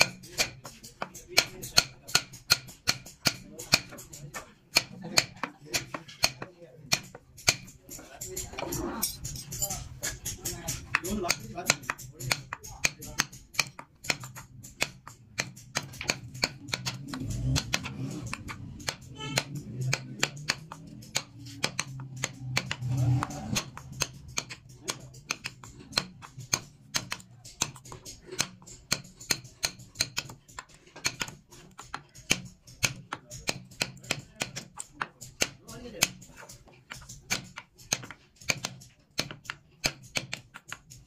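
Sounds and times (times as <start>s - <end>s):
chisel clicking into wood: 0.0s - 7.8s, 10.7s - 41.0s.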